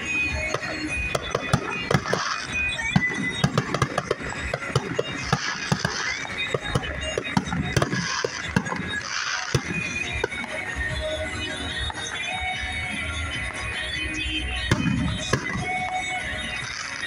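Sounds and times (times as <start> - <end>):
fireworks bangs and pops: 0.0 - 13.9, 14.5 - 17.0
fireworks hissing crackle: 0.0 - 17.0.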